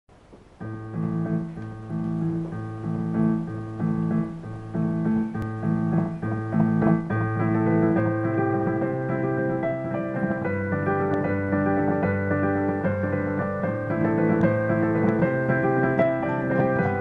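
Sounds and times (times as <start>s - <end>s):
solo piano chords: 0.1s - 17.0s.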